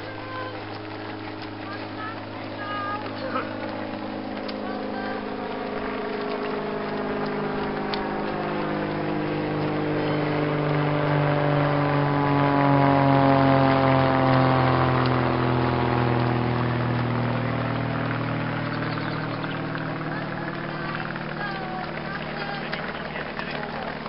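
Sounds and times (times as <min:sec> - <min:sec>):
passing engine drone: 0:00.0 - 0:24.0.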